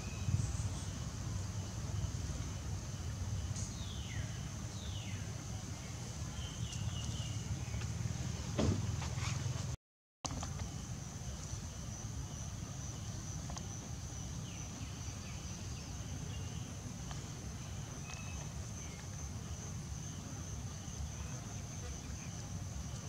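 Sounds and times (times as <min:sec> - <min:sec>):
insects droning: 0:00.0 - 0:09.5, 0:10.3 - 0:23.0.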